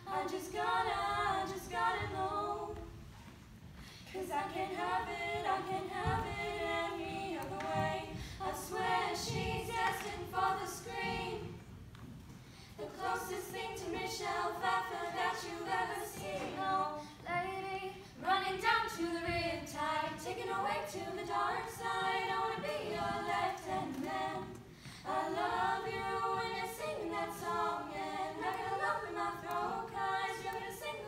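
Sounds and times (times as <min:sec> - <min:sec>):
girls singing a cappella: 0:00.0 - 0:31.0.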